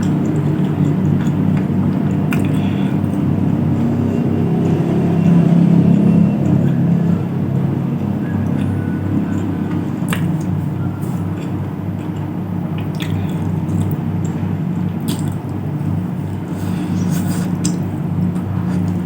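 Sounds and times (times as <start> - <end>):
chewing food: 0.0 - 19.0
pulsing low hum: 0.0 - 19.0.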